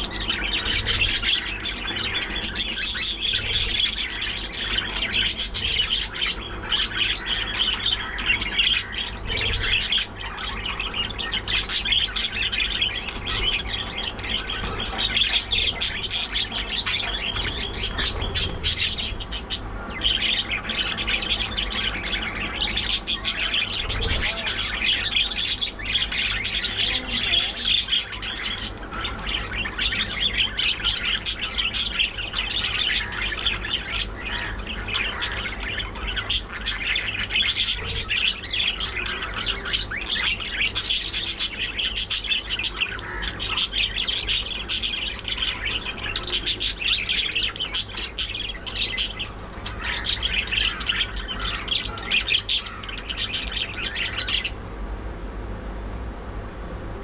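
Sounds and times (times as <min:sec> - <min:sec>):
budgerigars chattering and chirping: 0:00.0 - 0:54.6.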